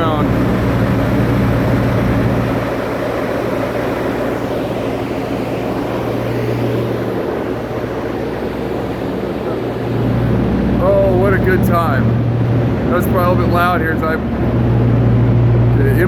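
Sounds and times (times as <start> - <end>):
diesel generator droning: 0.0 - 16.0.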